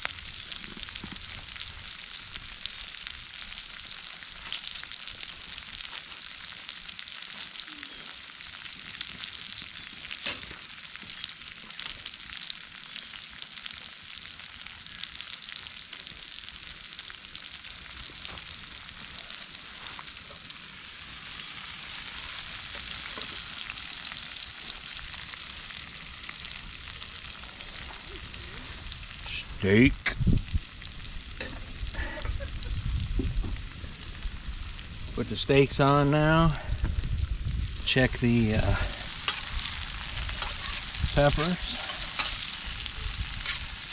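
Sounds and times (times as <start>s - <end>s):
peppers sizzling in oil: 0.0s - 43.9s.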